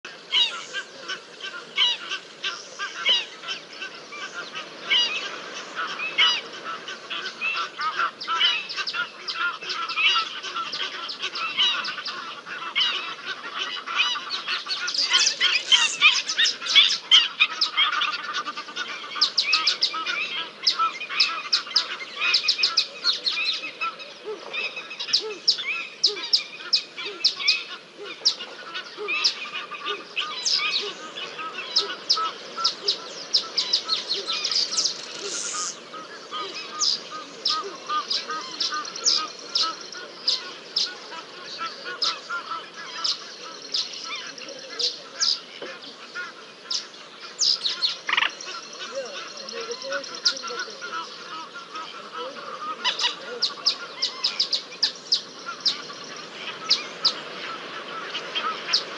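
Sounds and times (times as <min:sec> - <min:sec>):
wild dogs twittering: 0:00.3 - 0:58.9.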